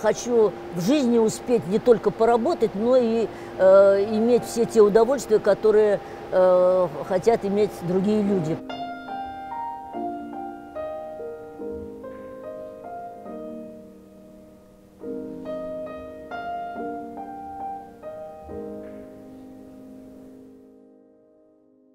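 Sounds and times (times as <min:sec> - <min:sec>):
piano music: 0:00.0 - 0:21.9.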